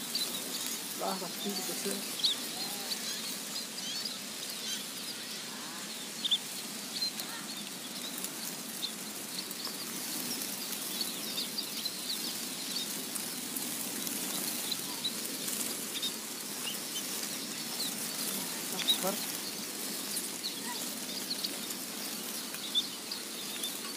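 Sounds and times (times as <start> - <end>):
small birds chirping: 0.0 - 23.9
steady hiss: 0.0 - 23.9.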